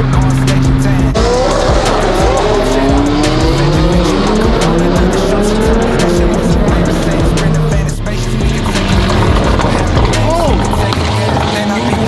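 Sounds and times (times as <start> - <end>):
background music with beat: 0.0 - 12.0
car engine accelerating: 0.0 - 12.0.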